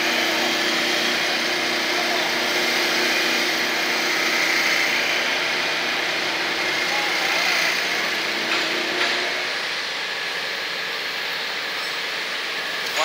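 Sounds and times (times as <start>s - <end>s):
constant machine hum: 0.0s - 13.0s
lathe cutters shaving wood: 0.0s - 13.0s.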